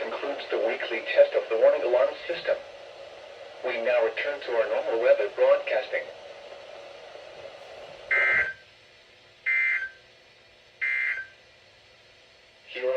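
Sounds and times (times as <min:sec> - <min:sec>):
faint channel hiss: 0:00.0 - 0:12.9.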